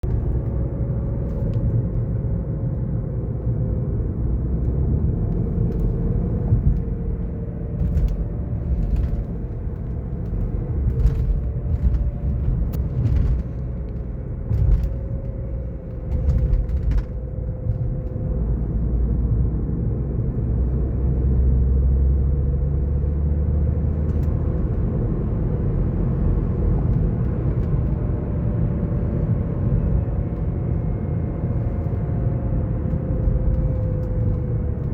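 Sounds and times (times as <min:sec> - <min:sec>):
car drivetrain and road rumble: 0:00.0 - 0:34.9.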